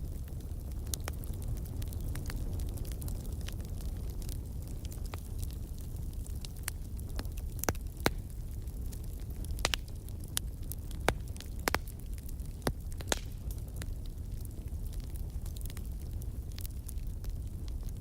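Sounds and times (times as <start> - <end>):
low rumble of flames: 0.0 - 18.0
wood fire snaps and pops: 0.0 - 18.0.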